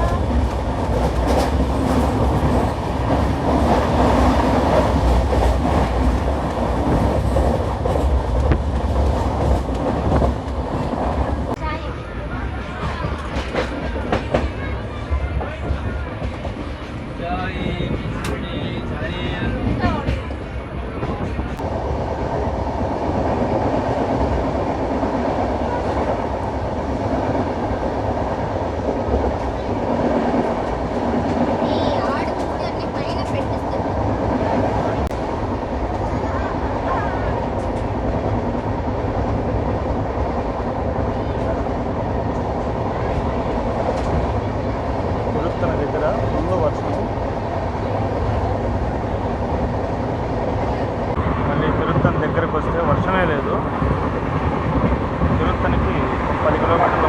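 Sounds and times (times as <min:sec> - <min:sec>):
train wheel and rail rumble: 0:00.0 - 0:57.0.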